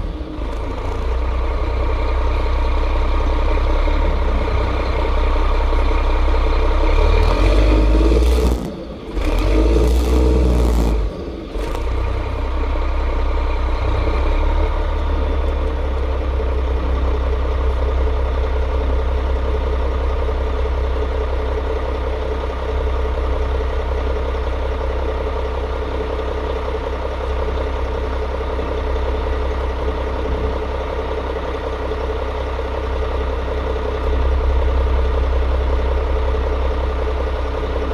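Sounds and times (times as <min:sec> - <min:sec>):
diesel bus engine running: 0:00.0 - 0:37.9.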